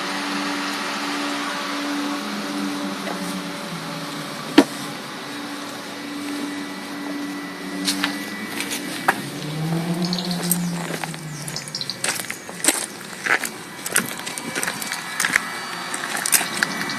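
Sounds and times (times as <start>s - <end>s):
heater fan whirring: 0.0s - 16.9s.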